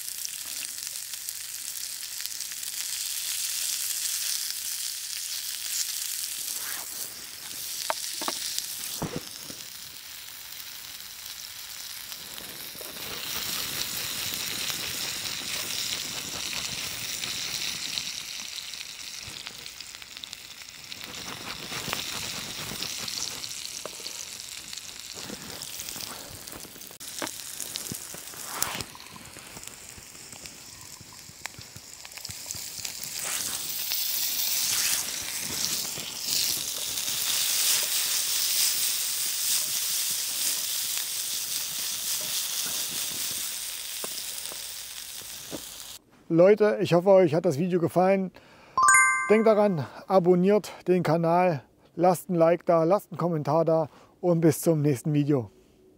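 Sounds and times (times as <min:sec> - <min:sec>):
sizzling in iron pan: 0:00.0 - 0:46.0.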